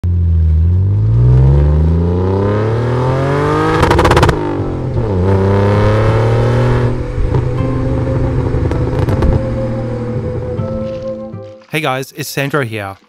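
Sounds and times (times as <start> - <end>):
car engine revving: 0.0 - 11.1.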